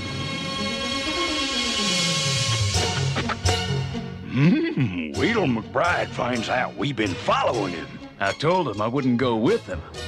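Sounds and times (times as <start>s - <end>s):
background score music: 0.0s - 10.0s.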